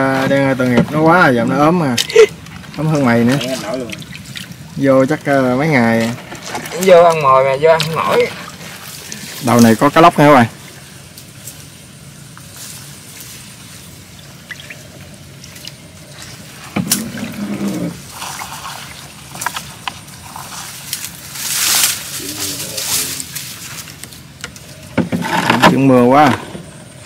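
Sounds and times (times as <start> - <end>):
water trickling and splashing: 0.0 - 26.3.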